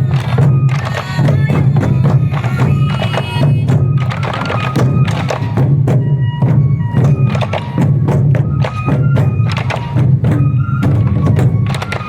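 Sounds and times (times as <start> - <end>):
bamboo flutes melody: 0.0 - 12.0
taiko drums beating: 0.0 - 12.0.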